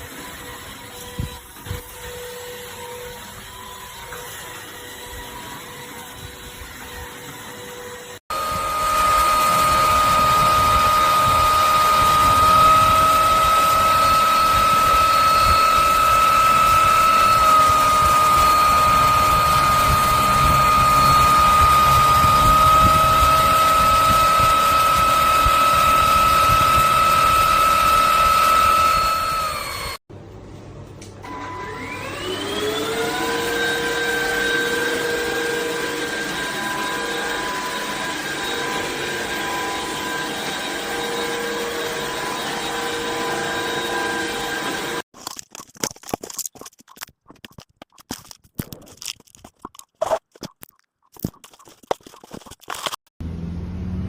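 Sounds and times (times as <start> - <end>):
vacuum cleaner motor whining: 0.0 - 30.0, 31.2 - 45.1.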